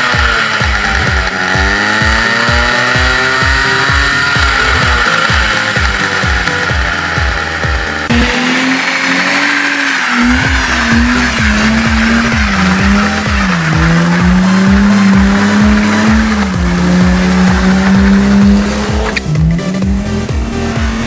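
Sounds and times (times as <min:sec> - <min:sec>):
tyres squealing: 0:00.0 - 0:19.6
car engine at high revs: 0:00.0 - 0:21.0
electronic music with steady beat: 0:00.0 - 0:21.0.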